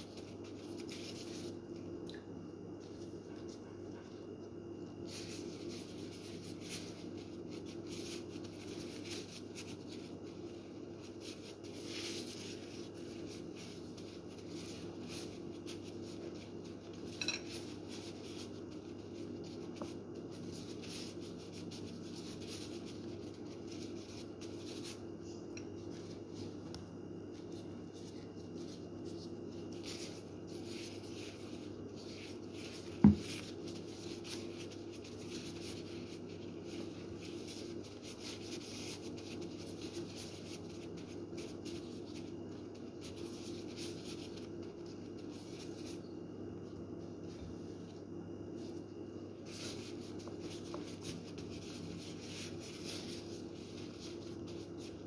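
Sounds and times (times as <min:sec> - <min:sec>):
plastic gloves rustling: 0:00.0 - 0:02.0, 0:02.7 - 0:55.0
steady low hum: 0:00.0 - 0:55.0.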